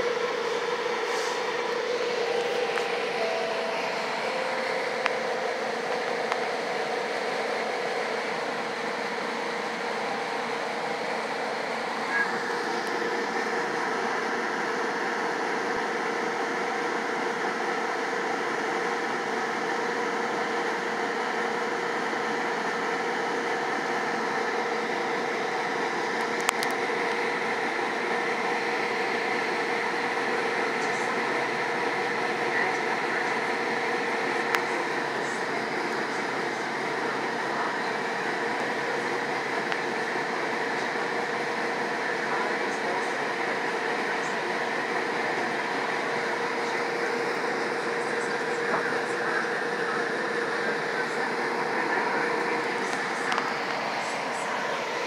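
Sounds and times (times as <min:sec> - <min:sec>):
train car interior hum: 0:00.0 - 0:55.0.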